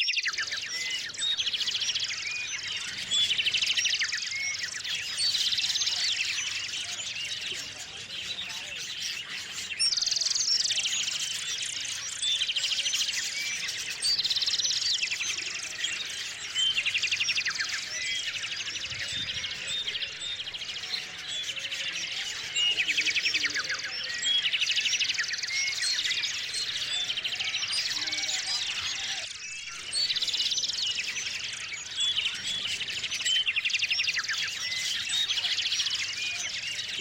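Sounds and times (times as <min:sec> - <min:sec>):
rapid trilled birdsong: 0:00.0 - 0:37.0
songbirds chirping: 0:00.0 - 0:37.0.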